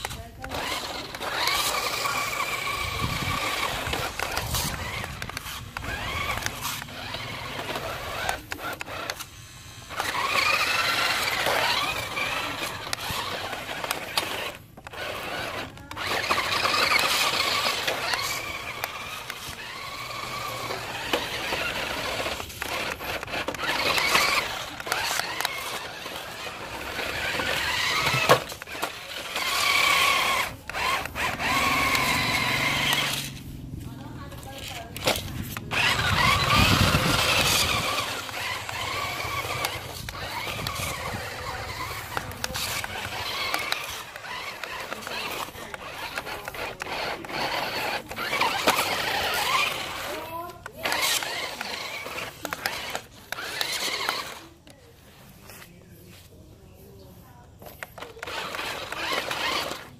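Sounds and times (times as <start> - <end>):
toy car motors whining: 0.0 - 59.9.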